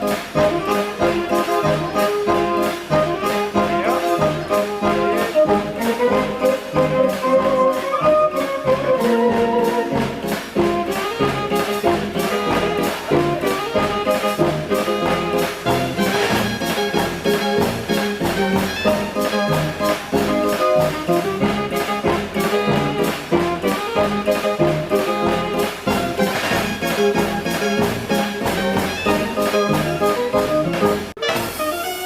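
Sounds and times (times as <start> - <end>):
steady drum beat: 0.0 - 31.6
dance organ playing a tune: 0.0 - 32.0.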